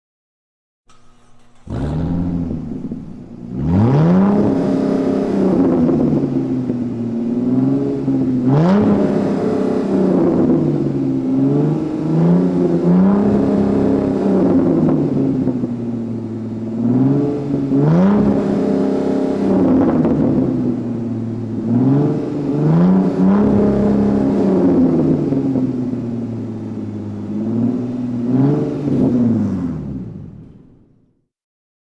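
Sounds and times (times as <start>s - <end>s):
car engine revving: 0.9s - 30.9s.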